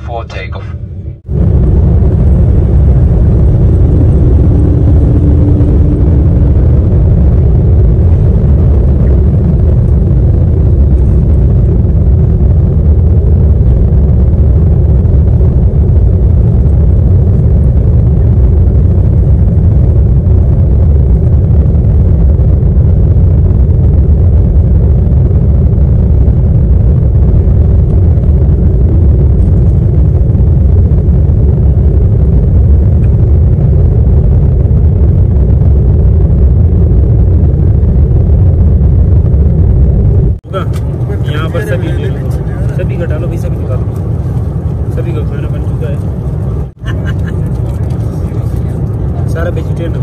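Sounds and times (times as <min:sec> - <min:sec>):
jet engines rumbling in cabin: 0:00.0 - 0:50.0.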